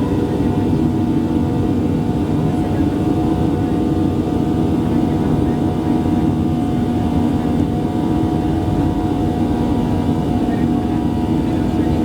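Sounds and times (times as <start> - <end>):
jet engines heard in cabin: 0.0 - 12.0.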